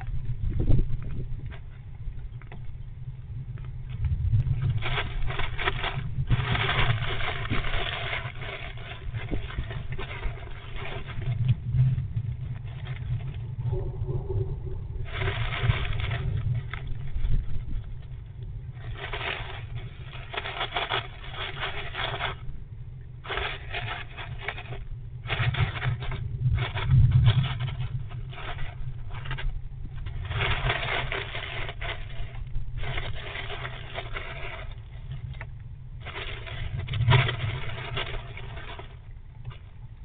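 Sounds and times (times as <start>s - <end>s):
steady low rumble: 0.0s - 40.0s
squirrel rustling in wooden box: 3.9s - 14.3s, 15.0s - 40.0s.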